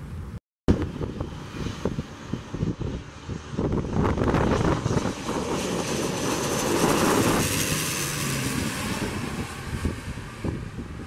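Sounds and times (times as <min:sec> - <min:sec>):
turboprop airliner passing overhead: 0:00.1 - 0:11.0.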